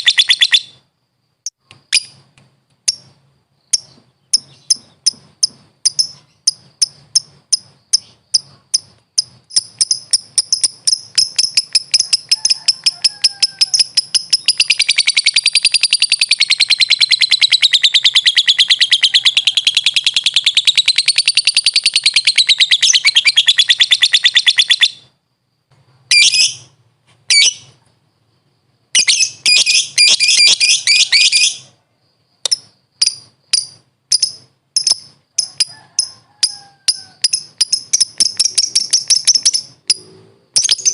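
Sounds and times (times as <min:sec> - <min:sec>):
lovebird chirping and chattering: 0:00.0 - 0:00.8, 0:02.8 - 0:25.1, 0:26.1 - 0:27.8, 0:29.0 - 0:31.7, 0:32.5 - 0:40.9.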